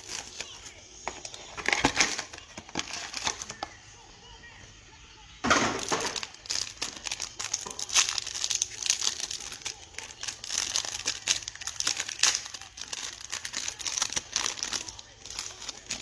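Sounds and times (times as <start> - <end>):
foil wrapper crinkling: 0.0 - 3.8, 5.6 - 16.0.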